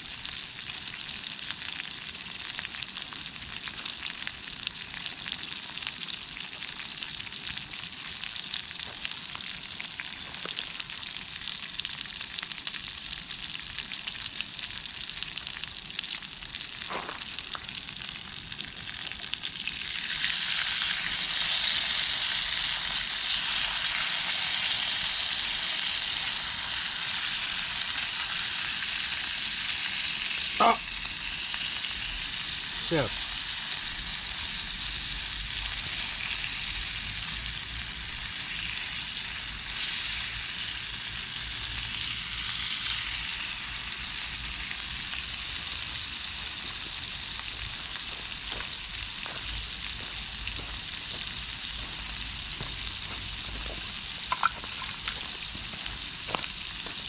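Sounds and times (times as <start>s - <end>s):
meat sizzling over a fire: 0.0s - 57.0s.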